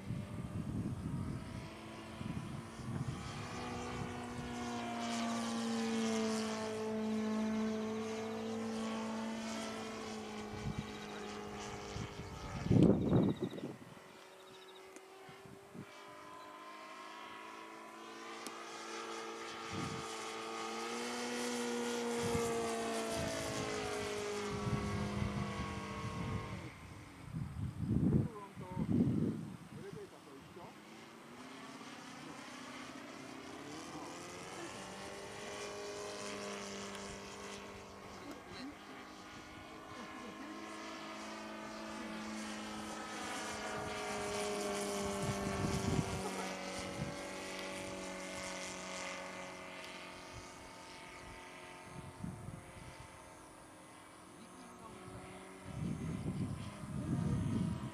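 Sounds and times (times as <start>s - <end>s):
model airplane propeller drone: 0.0s - 57.9s.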